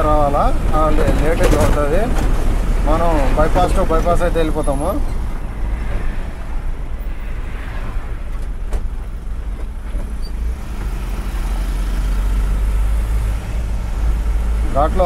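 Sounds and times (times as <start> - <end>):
vehicle engine and road drone: 0.0 - 15.0.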